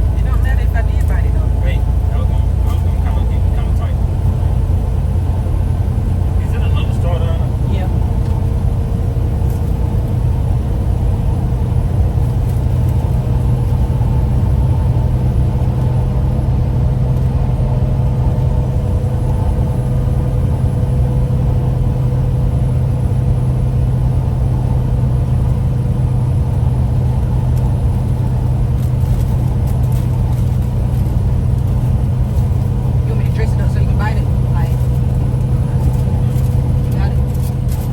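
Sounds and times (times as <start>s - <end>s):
constant hum: 0.0s - 37.9s
truck engine drone: 0.0s - 37.9s.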